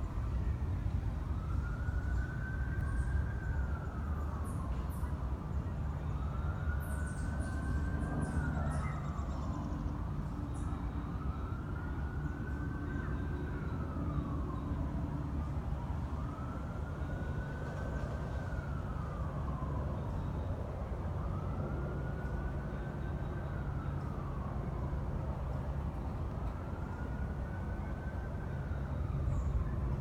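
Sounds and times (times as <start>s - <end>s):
emergency siren wailing: 0.0s - 30.0s
low traffic rumble: 0.0s - 30.0s.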